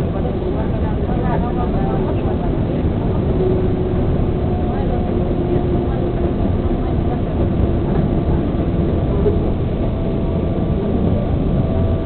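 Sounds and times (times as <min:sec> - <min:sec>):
subway train rumbling on track: 0:00.0 - 0:12.0.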